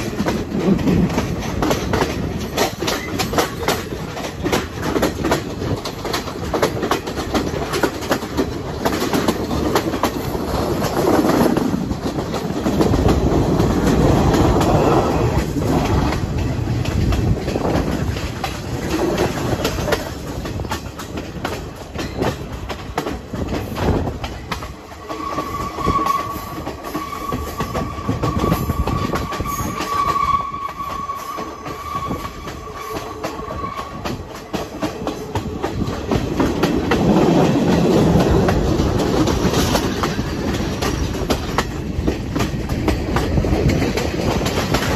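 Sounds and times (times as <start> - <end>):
train rumbling and clattering: 0.0 - 44.9.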